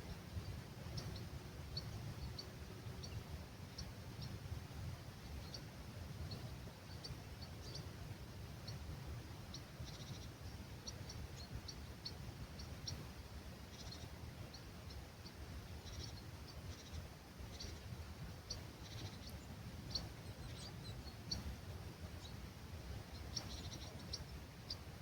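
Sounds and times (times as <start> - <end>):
low rumble of breeze: 0.0 - 25.0
small birds chirping and trilling: 0.0 - 25.0.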